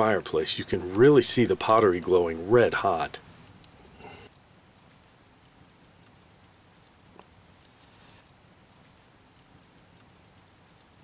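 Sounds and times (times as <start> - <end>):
coals crackling in fireplace: 0.0 - 11.0.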